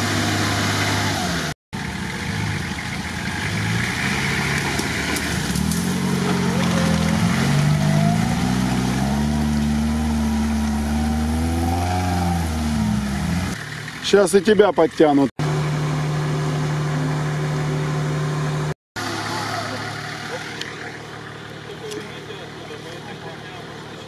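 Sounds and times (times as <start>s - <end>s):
car engine under load: 0.0s - 24.0s.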